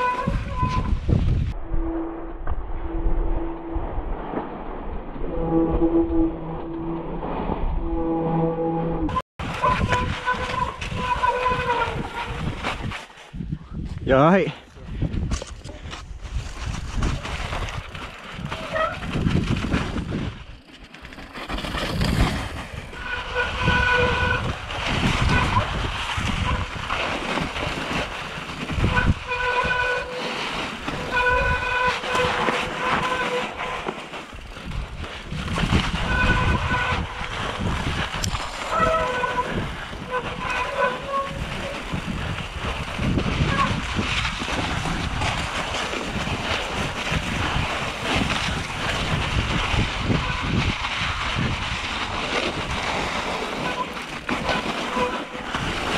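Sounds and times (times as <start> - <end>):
bike rattling over bumps: 0.0 - 1.6, 9.1 - 13.3, 15.1 - 55.9
wind and tyre noise: 0.0 - 55.9.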